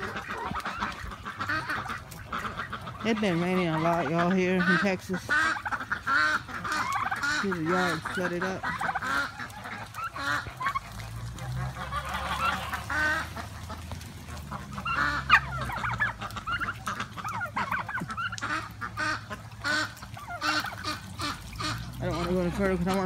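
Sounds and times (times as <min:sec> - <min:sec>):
turkeys and ducks calling: 0:00.0 - 0:23.0.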